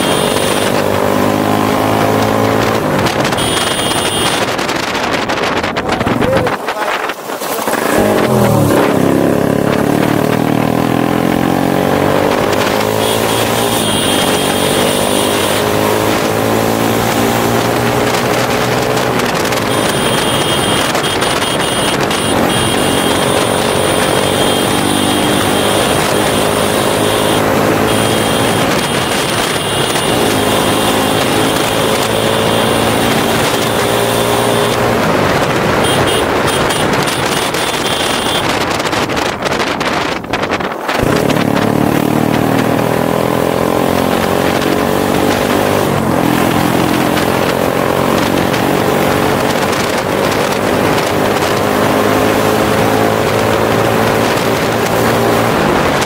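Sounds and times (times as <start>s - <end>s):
motorcycle engine accelerating: 0.0s - 7.0s, 7.6s - 56.0s.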